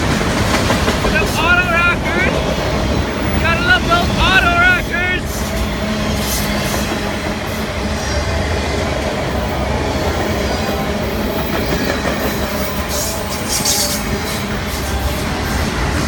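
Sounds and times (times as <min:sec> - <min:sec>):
freight train wheels rumbling on rails: 0:00.0 - 0:16.0.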